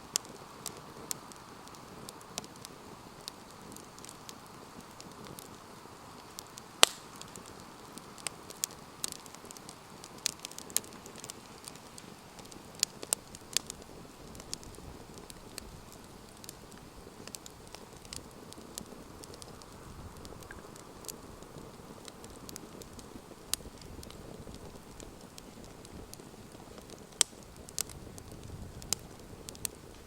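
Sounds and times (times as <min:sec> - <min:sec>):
campfire crackling and popping: 0:00.0 - 0:30.0
hiss of burning: 0:00.0 - 0:30.0.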